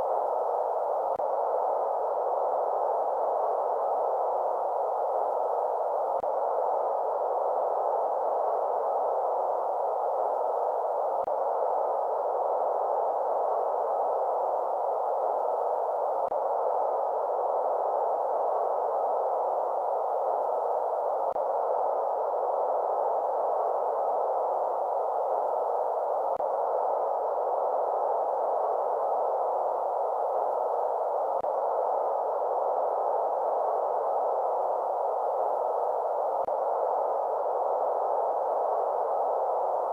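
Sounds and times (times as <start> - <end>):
muffled steady hiss: 0.0 - 39.9.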